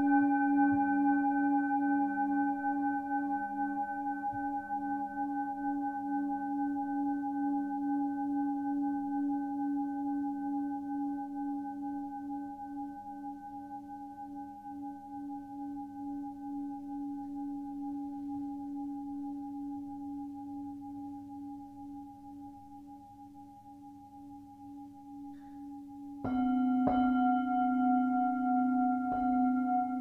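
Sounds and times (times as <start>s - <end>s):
singing bowl ringing: 0.0s - 30.0s.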